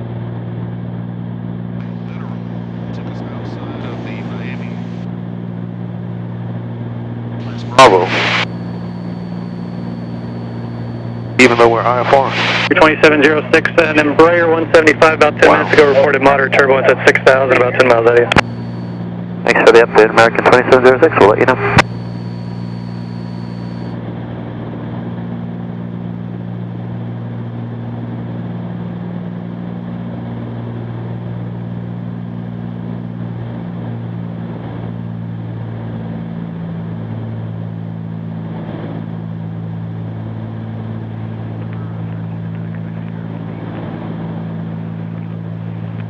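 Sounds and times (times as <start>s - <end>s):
aircraft cabin engine drone: 0.0s - 46.0s.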